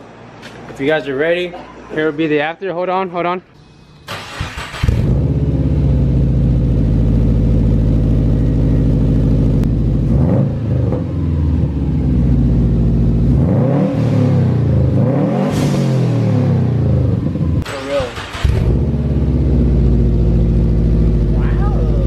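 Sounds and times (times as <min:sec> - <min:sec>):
car engine idling and revving: 0:04.1 - 0:22.0.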